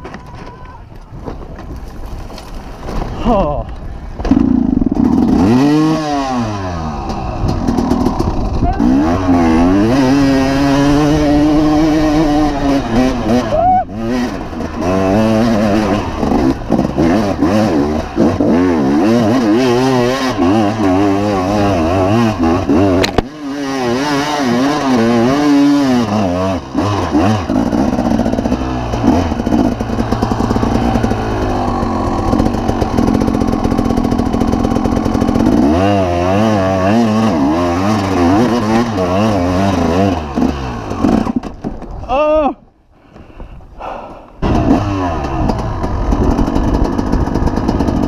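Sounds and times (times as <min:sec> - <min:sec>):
dirt bike engine revving: 0:04.1 - 0:41.6, 0:43.8 - 0:48.0.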